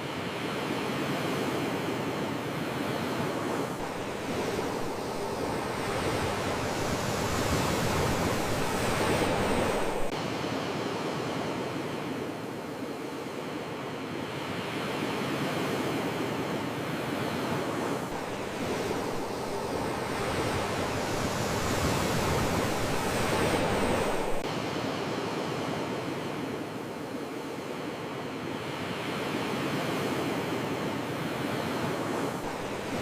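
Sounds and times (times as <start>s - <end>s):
sea waves washing in: 0.1s - 33.0s.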